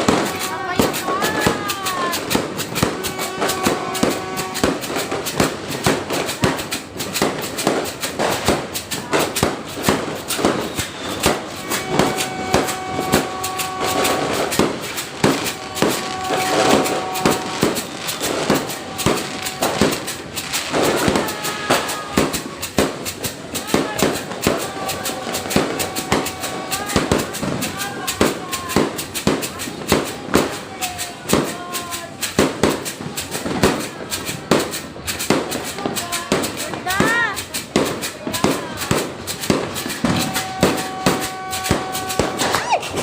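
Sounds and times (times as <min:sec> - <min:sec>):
fireworks and firecrackers banging: 0:00.0 - 0:43.0.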